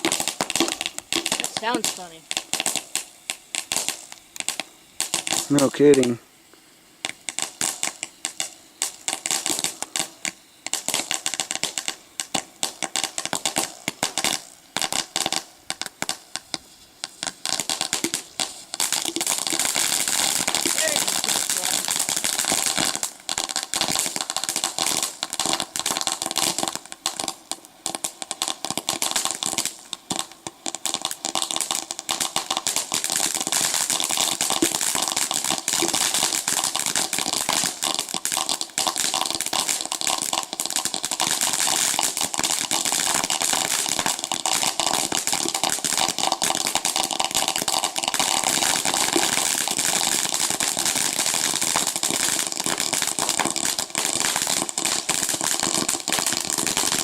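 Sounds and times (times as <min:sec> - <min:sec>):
firework crackling hiss: 0:00.0 - 0:57.0.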